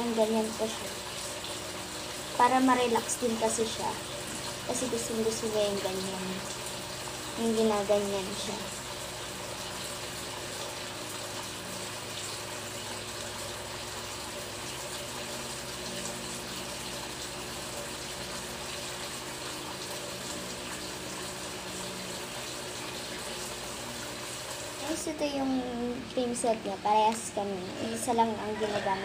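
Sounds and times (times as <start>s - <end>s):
water running: 0.0s - 29.0s.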